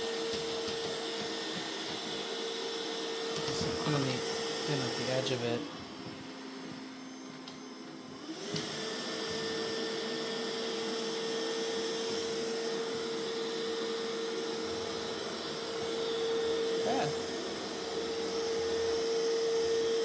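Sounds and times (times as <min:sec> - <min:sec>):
robot vacuum suction fan whine: 0:00.0 - 0:20.0.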